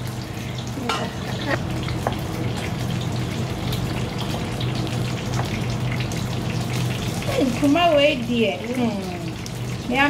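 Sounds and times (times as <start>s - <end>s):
stew simmering and bubbling: 0.0s - 10.0s.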